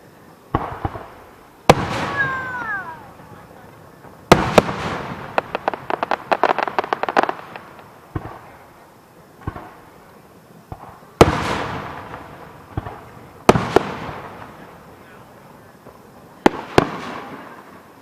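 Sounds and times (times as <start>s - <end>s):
fireworks crackling pops: 0.0s - 18.0s.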